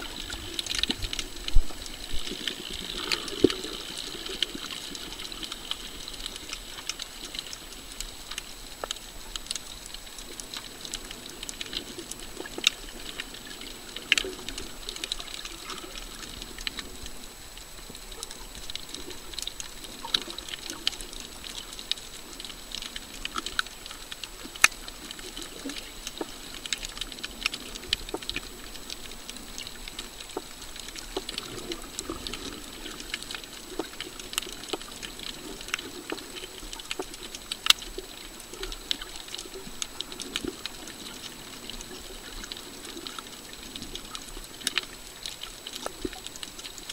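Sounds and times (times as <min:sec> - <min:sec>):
sharp underwater clicks and crackles: 0:00.0 - 0:46.9
underwater hiss: 0:00.0 - 0:46.9.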